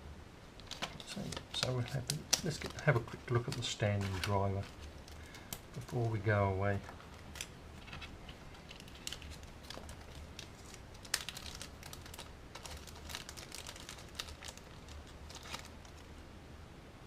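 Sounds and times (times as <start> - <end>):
packaging crinkling: 0.6 - 16.2.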